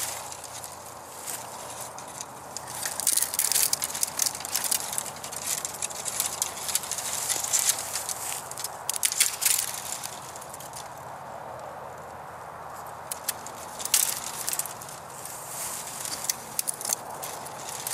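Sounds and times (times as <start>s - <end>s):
dry brush rustling and crackling: 0.0s - 17.9s.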